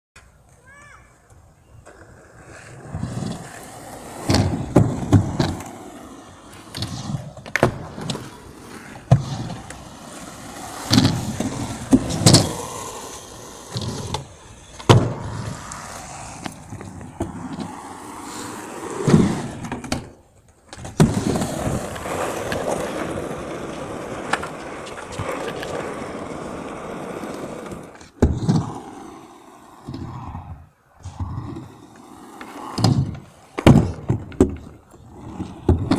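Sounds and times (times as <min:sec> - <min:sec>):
skateboard wheels rolling on concrete: 0:00.2 - 0:35.9
skateboard clacks and slaps: 0:03.0 - 0:05.9, 0:06.5 - 0:28.8, 0:31.1 - 0:35.9.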